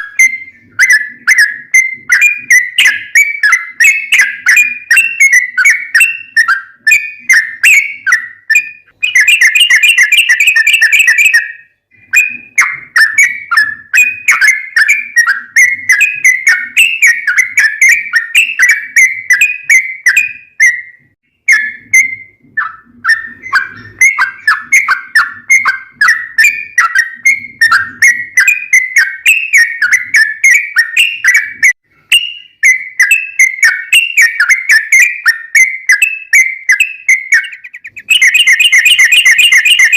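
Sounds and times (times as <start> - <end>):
bird singing chattering notes: 0.0 - 20.8, 21.4 - 39.9.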